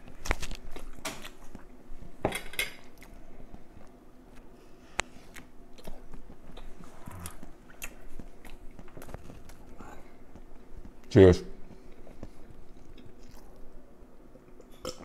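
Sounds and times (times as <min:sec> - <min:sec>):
man chewing: 0:00.0 - 0:02.2, 0:02.8 - 0:15.0.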